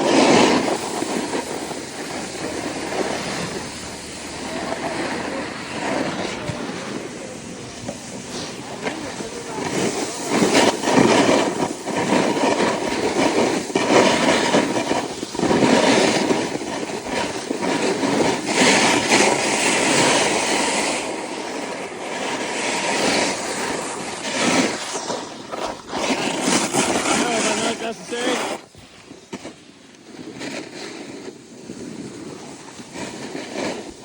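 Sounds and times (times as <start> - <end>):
snowboard scraping over snow: 0.0 - 34.0
wind rushing over microphone: 0.0 - 34.0.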